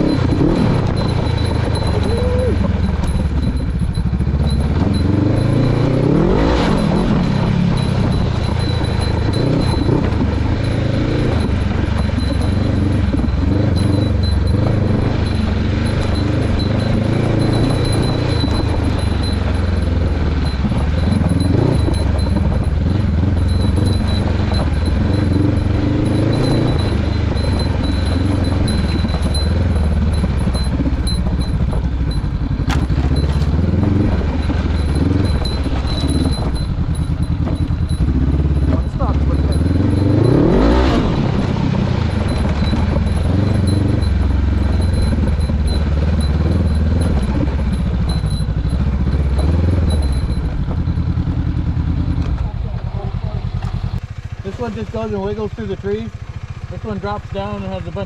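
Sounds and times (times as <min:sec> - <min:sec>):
clatter: 0:00.0 - 0:58.0
motorcycle engine running: 0:00.0 - 0:58.0.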